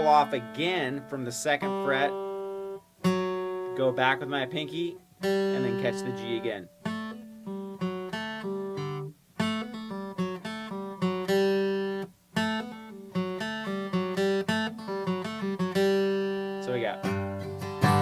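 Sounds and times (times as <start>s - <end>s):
acoustic guitar riff: 0.0s - 18.0s.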